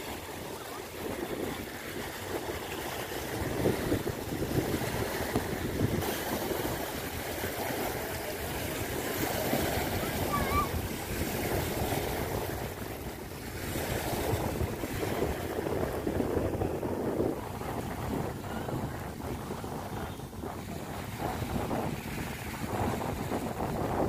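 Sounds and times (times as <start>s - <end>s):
small waves breaking on shore: 0.0s - 24.0s
wind buffeting microphone: 0.0s - 24.0s.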